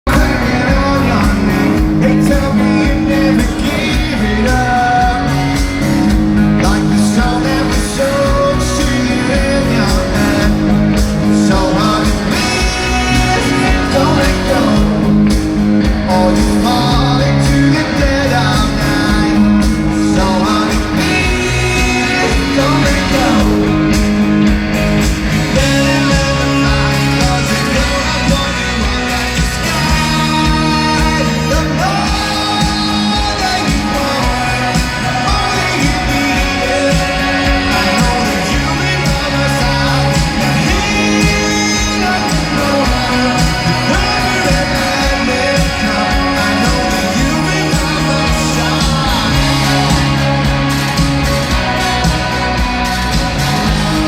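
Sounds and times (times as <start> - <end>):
bass guitar: 0.0 - 54.0
drums: 0.0 - 54.0
electric guitars: 0.0 - 54.0
person singing: 0.0 - 54.0.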